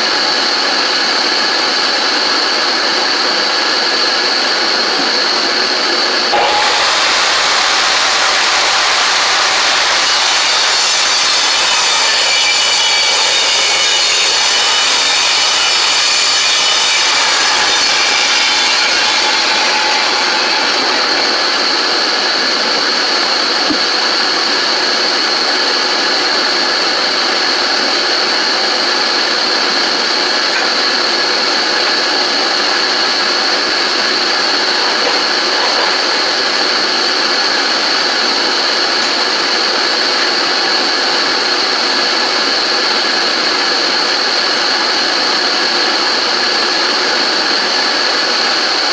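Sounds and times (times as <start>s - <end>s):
saw cutting through wood: 0.2s - 48.9s.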